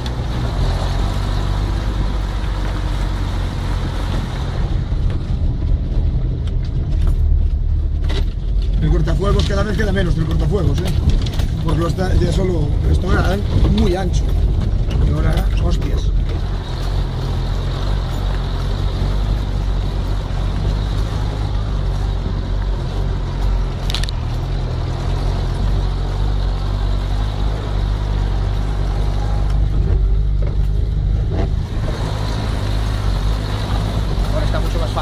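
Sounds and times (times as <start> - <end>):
vehicle engine running at low speed: 0.0 - 35.0.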